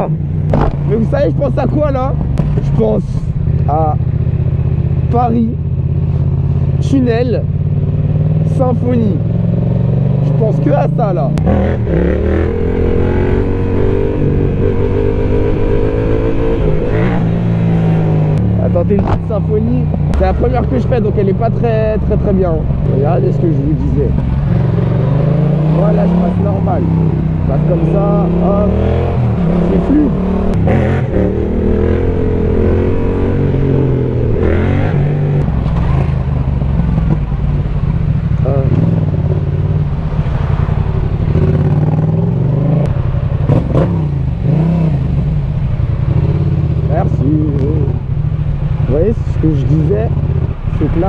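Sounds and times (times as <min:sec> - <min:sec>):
motorcycle engine riding: 0:00.0 - 0:51.0.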